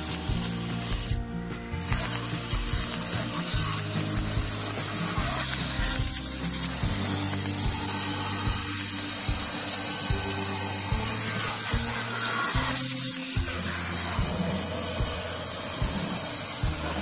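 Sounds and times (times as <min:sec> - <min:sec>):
background music with bass line: 0:00.0 - 0:17.0
stone cutter cutting stone: 0:00.0 - 0:17.0.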